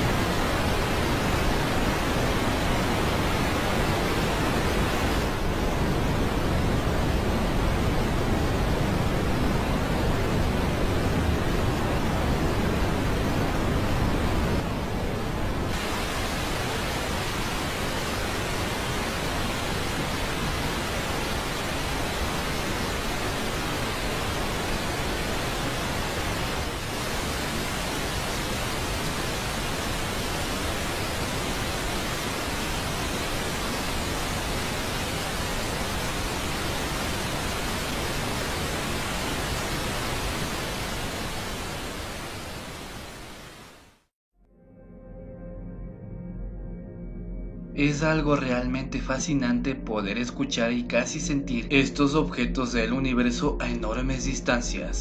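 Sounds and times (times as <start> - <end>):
rushing hiss with low rumble: 0.0 - 44.1, 47.8 - 55.0.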